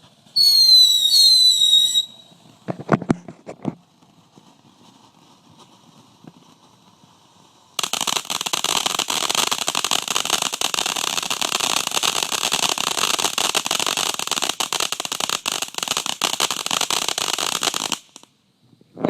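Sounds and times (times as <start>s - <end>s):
firework crackling: 0.0s - 18.5s.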